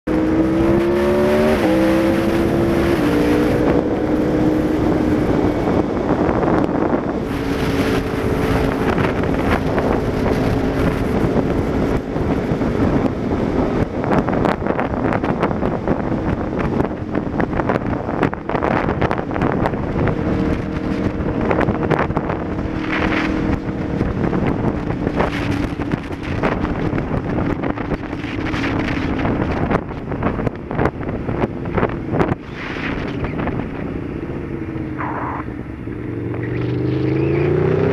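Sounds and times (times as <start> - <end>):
motorcycle engine accelerating: 0.0 - 37.9
wind noise on microphone: 0.0 - 37.9.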